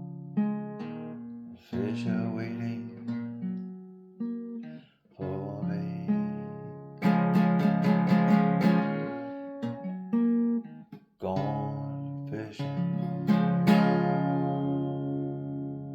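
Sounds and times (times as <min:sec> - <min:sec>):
acoustic guitar strumming chords: 0:00.0 - 0:15.9.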